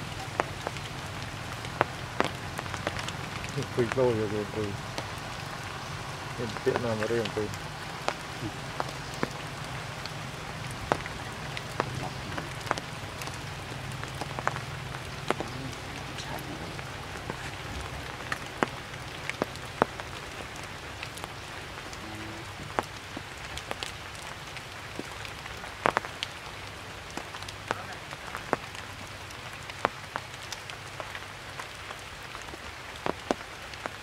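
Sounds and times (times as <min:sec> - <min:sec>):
rain pattering on leaves: 0:00.0 - 0:34.0
single raindrops striking: 0:00.0 - 0:34.0.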